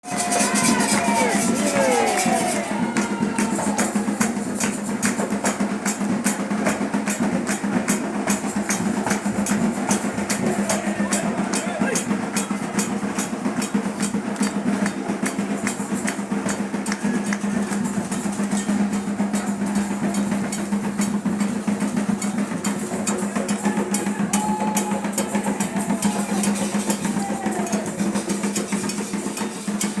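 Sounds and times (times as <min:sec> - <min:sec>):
hand drums fast rhythm: 0:00.0 - 0:30.0.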